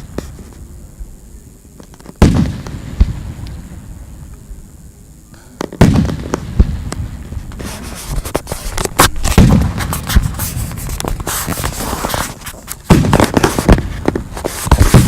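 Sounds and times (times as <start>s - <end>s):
fireworks crackling: 0.0s - 15.0s
fireworks bangs: 1.8s - 4.4s, 5.4s - 15.0s.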